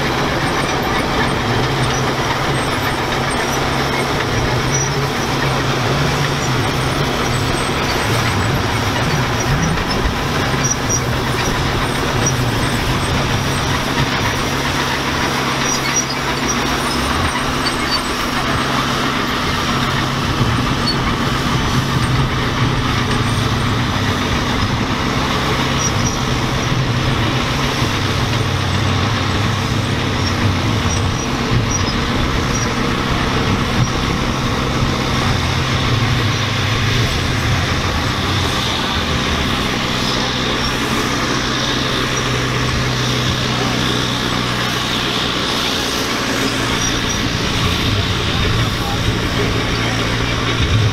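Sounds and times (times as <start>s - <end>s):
sled grinding along dirt: 0.0s - 50.9s
tractor engine under load: 0.0s - 50.9s.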